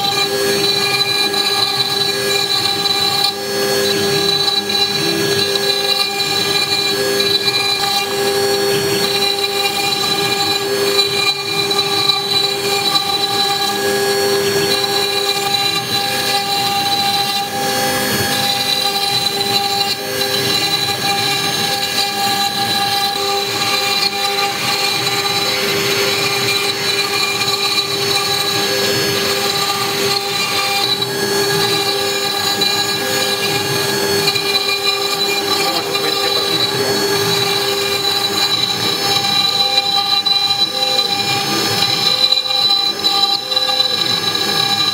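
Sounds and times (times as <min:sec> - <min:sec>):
cutter rasping in stone: 0:00.0 - 0:44.9
router spindle whining: 0:00.0 - 0:44.9.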